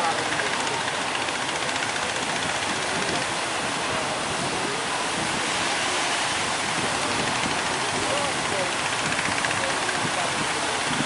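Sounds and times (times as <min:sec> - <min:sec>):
large waves breaking: 0:00.0 - 0:11.0.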